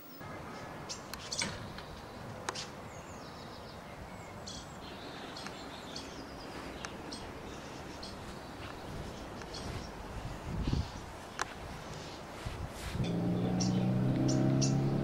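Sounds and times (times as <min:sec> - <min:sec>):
background hiss: 0:00.0 - 0:15.0
birds chirping: 0:00.0 - 0:15.0.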